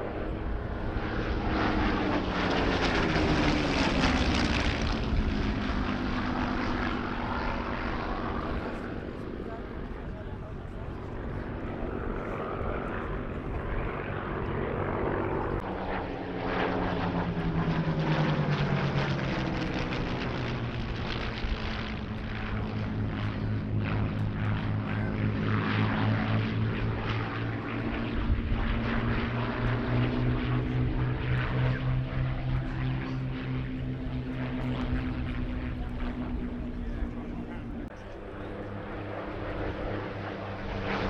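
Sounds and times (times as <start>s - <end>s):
propeller plane engines overhead: 0.0s - 41.0s.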